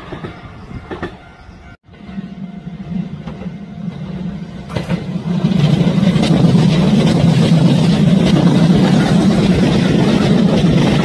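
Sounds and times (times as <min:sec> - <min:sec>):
electric train passing: 0:00.0 - 0:11.0.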